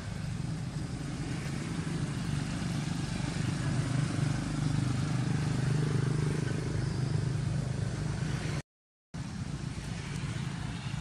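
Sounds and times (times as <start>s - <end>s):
low engine hum: 0.0s - 8.6s, 9.2s - 11.0s.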